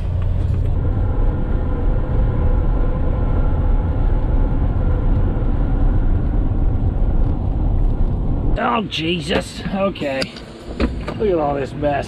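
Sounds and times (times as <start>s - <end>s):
road noise: 0.0s - 12.0s
van engine rumble: 0.0s - 12.0s.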